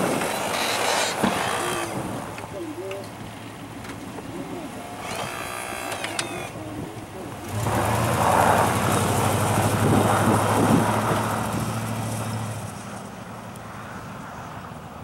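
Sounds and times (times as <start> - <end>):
truck engine pulling away: 0.0 - 15.0.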